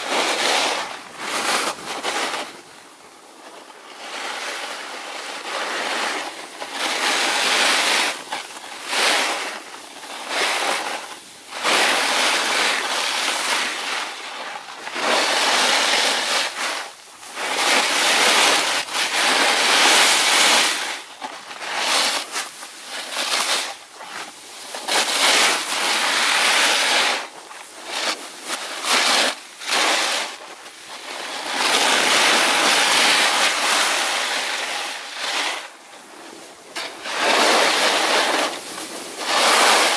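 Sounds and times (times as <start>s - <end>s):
snowboard scraping over snow: 0.0s - 39.9s.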